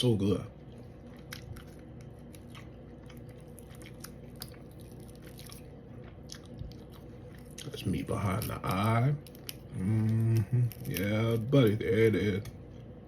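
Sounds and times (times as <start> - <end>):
low steady hum: 0.0 - 13.0
person chewing food: 0.6 - 11.2.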